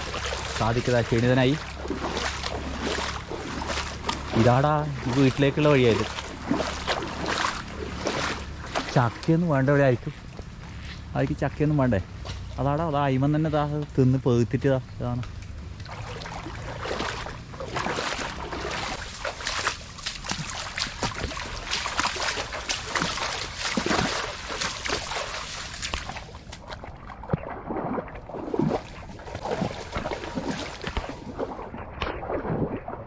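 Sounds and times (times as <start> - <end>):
water splashing and sloshing: 0.0 - 14.4, 15.0 - 33.0.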